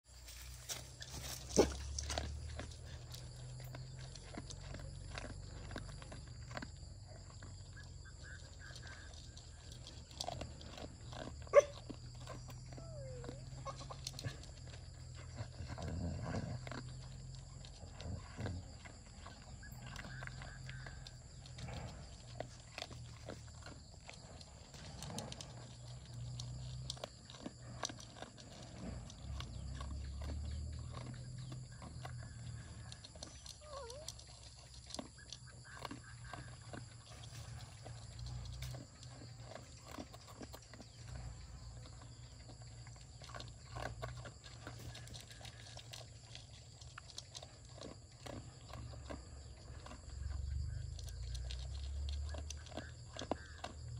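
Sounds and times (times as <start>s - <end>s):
dog chewing dry kibble: 0.0s - 53.9s.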